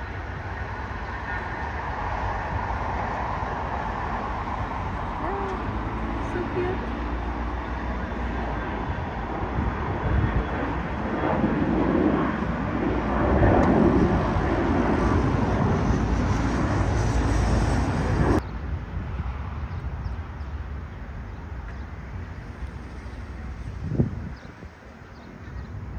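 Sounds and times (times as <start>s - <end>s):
jet engines at takeoff power: 0.0s - 25.9s.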